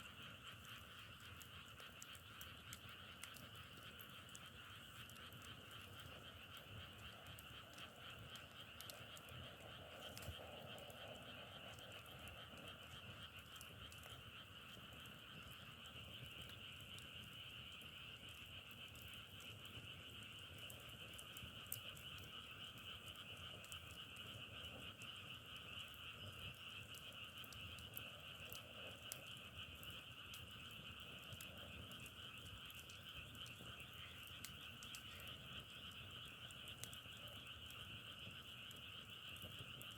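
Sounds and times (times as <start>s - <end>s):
firewood crackling: 0.0s - 39.9s
frogs calling: 0.0s - 39.9s.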